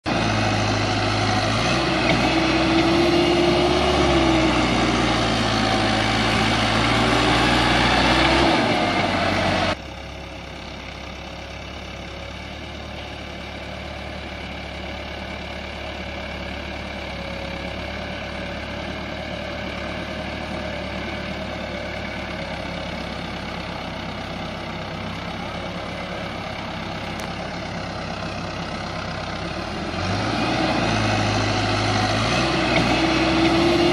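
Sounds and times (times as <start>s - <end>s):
tractor diesel engine: 0.0s - 33.9s.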